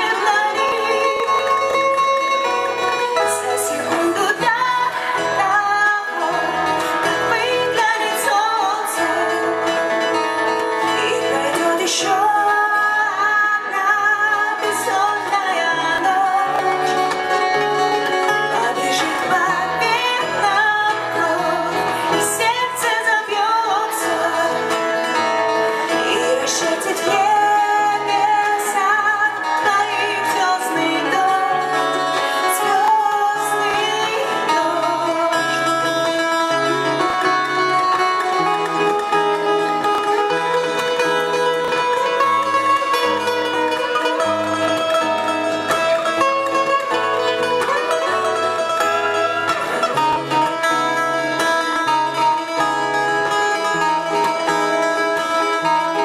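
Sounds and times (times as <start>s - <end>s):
live band playing: 0.0s - 56.0s
plucked guitar: 0.0s - 56.0s
wavering melodic lead line: 0.0s - 56.0s.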